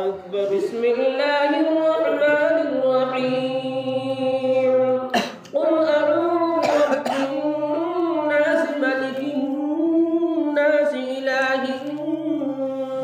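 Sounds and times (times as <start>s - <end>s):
person singing unaccompanied: 0.0s - 13.0s.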